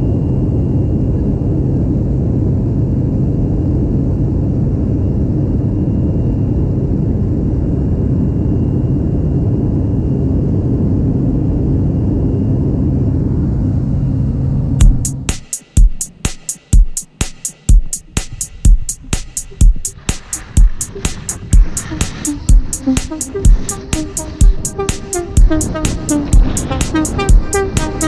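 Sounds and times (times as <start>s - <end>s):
light aircraft engine drone: 0.0s - 14.8s, 20.3s - 28.0s.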